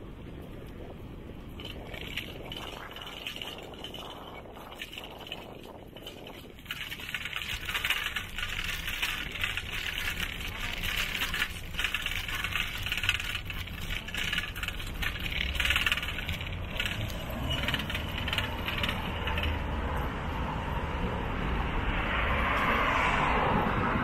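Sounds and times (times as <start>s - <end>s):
bicycle rattling and clattering: 0.0s - 20.4s
low rumble of riding: 0.0s - 24.0s.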